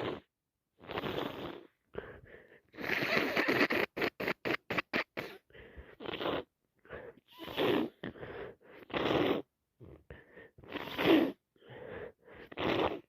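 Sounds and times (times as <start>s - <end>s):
person sniffing congested nose: 0.0s - 13.0s.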